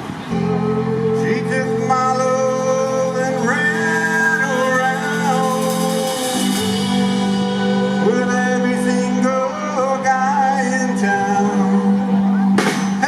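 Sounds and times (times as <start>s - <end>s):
live band music: 0.1s - 13.0s.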